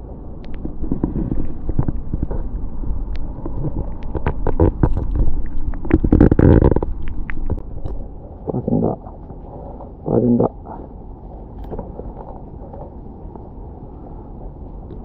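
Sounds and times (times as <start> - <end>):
low rumbling with small clicks: 0.0 - 15.0.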